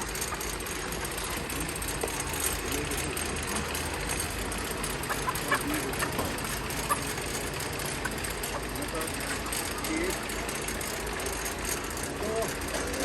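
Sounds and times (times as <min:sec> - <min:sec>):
mechanical running hum: 0:00.0 - 0:13.0.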